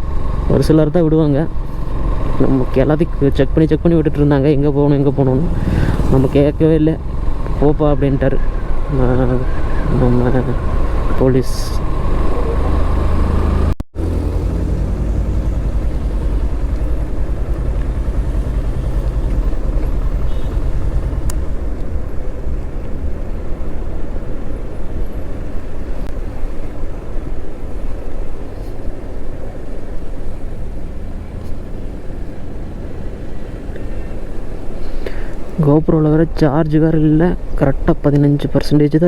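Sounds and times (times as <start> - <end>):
motorcycle running: 0.0 - 35.2
wind rushing over microphone: 0.0 - 38.1.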